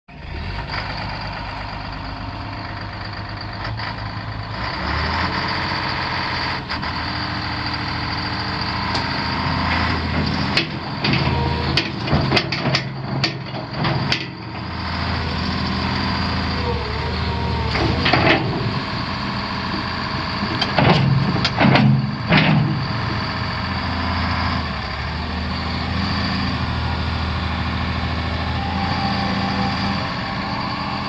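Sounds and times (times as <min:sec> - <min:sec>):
excavator diesel engine running: 0:00.1 - 0:31.0.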